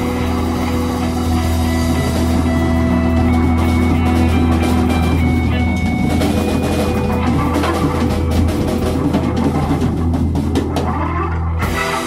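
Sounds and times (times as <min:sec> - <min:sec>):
bass line: 0:00.0 - 0:12.0
drum kit: 0:00.0 - 0:12.0
rock band playing: 0:00.0 - 0:12.0.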